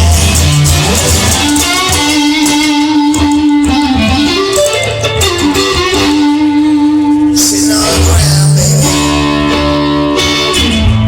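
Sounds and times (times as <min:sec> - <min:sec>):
bass: 0:00.0 - 0:11.0
drums: 0:00.0 - 0:11.0
electric guitar sustained notes: 0:00.2 - 0:11.0.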